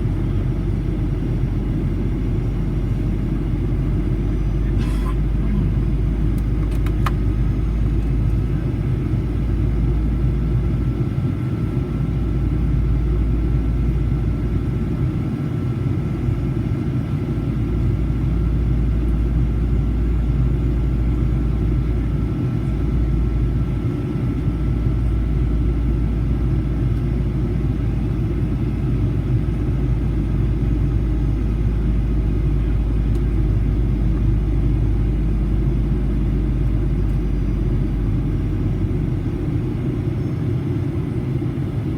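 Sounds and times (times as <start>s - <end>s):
airplane cabin engine rumble: 0.0s - 41.9s.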